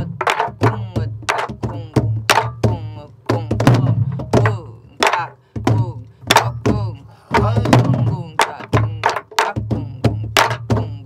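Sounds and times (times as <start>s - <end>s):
barrel drums struck with sticks: 0.0s - 11.0s.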